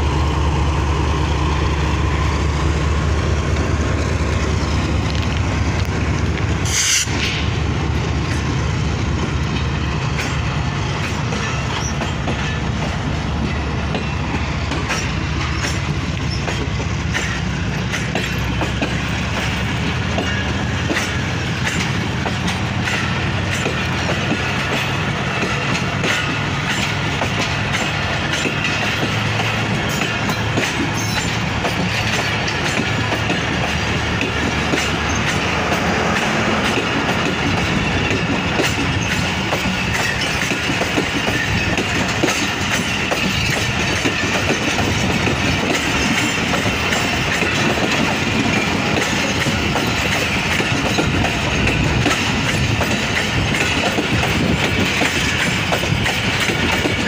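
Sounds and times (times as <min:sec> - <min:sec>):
wheels rumbling on rail: 0:00.0 - 0:57.0
wheels clicking over rail joints: 0:03.4 - 0:57.0.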